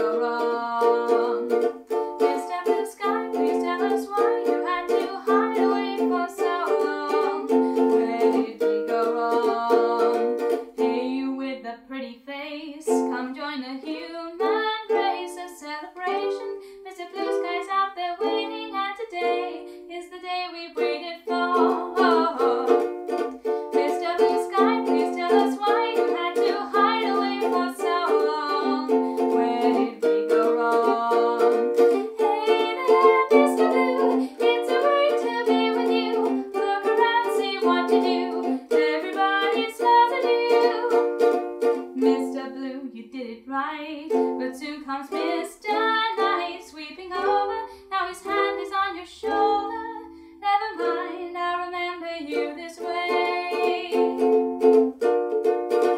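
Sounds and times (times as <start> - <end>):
ukulele strumming chords: 0.0 - 11.6, 12.7 - 55.9.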